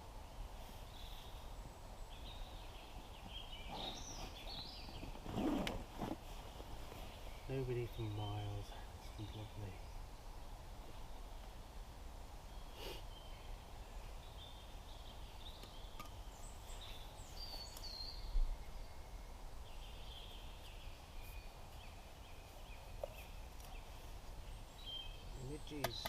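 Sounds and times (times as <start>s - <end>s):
birds chirping and singing: 0.6s - 10.0s, 12.4s - 26.0s.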